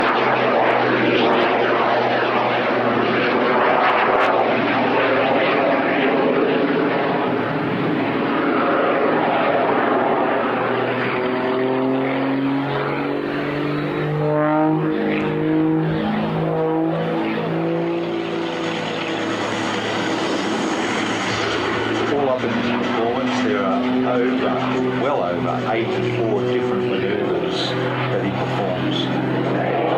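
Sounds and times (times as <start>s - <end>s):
aerobatic plane engine roar: 0.0s - 29.9s.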